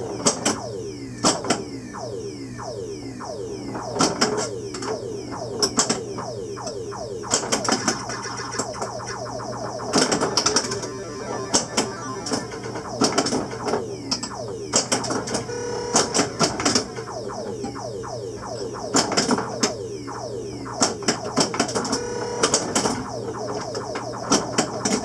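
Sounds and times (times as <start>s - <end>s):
falling electronic sound effects: 2.0s - 25.0s.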